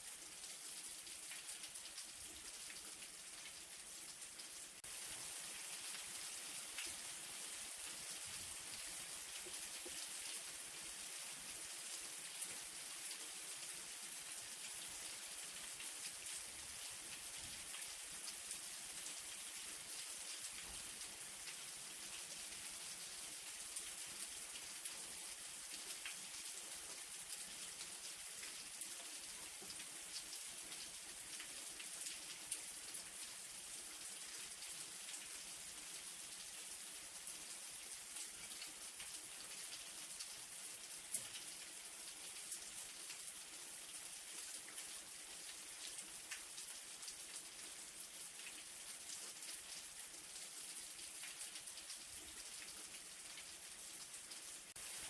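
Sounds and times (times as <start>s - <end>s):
light rain hiss: 0.0s - 55.0s.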